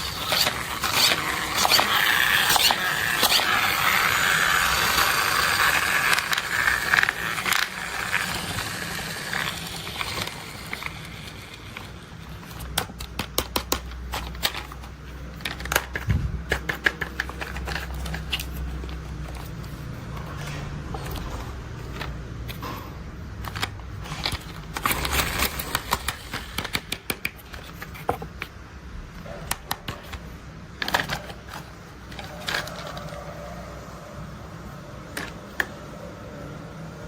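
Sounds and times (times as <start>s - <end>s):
toy vehicles scraping and rustling: 0.0s - 28.6s, 29.2s - 34.0s.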